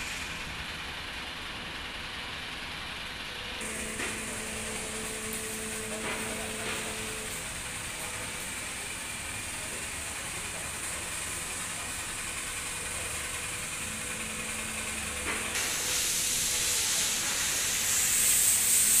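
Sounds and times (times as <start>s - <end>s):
air-conditioning service machine running: 0.0s - 19.0s.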